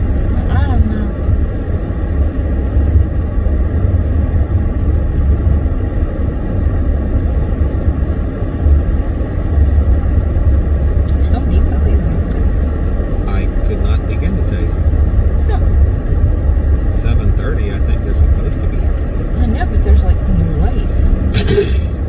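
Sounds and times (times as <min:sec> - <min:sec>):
car driving on snowy road: 0:00.0 - 0:22.0.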